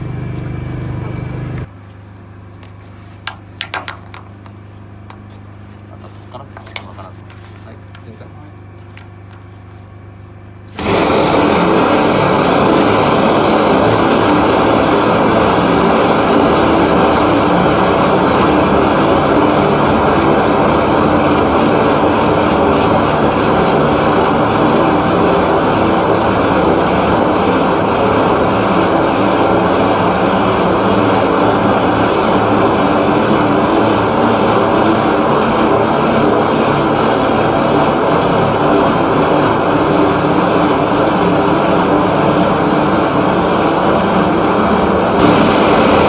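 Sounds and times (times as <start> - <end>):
drain-jetting machine running: 0.0 - 1.7, 10.6 - 46.0.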